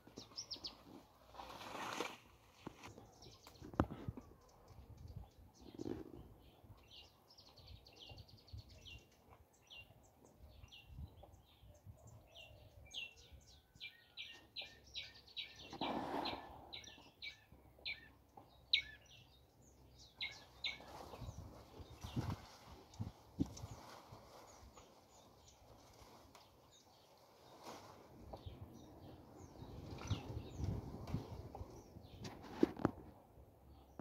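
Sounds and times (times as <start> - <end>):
small birds chirping: 0.0 - 1.5, 2.5 - 34.0.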